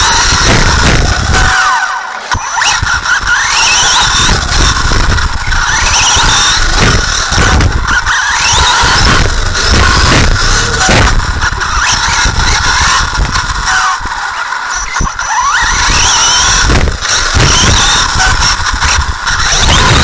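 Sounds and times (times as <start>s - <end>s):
rattling rumble of tyres on track: 0.0s - 20.0s
rc car motor whine: 0.0s - 20.0s.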